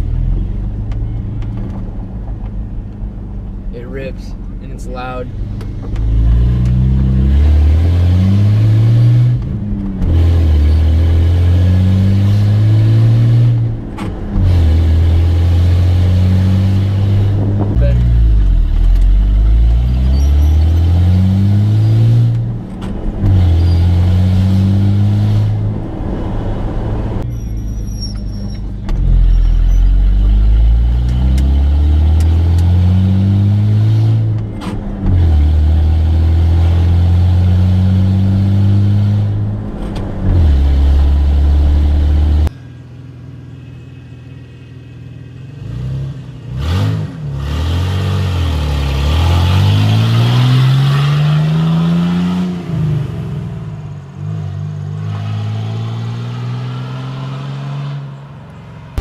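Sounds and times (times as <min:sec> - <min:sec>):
loud truck engine accelerating: 0:05.4 - 0:42.5, 0:45.6 - 0:58.2.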